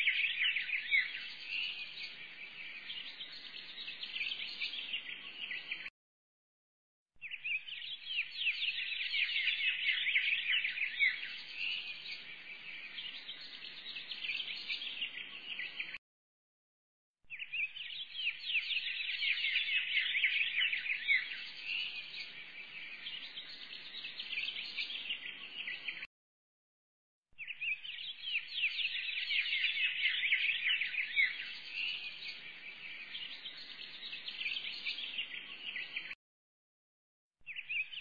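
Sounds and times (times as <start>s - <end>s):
small birds chirping: 0.0s - 5.9s, 7.2s - 16.0s, 17.3s - 26.1s, 27.4s - 36.2s, 37.4s - 38.0s.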